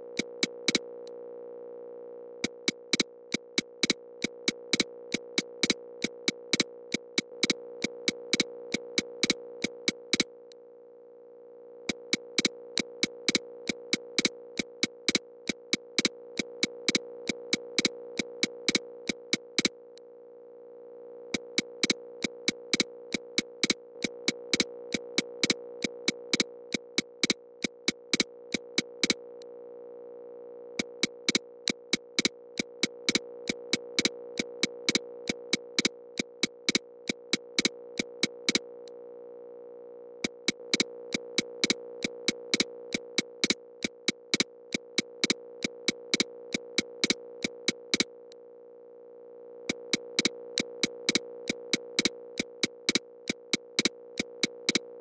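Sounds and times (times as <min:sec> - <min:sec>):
sharp electronic clicks: 0:00.1 - 0:00.8, 0:02.4 - 0:10.3, 0:11.9 - 0:19.8, 0:21.3 - 0:29.2, 0:30.8 - 0:38.7, 0:40.2 - 0:48.1, 0:49.7 - 0:54.9.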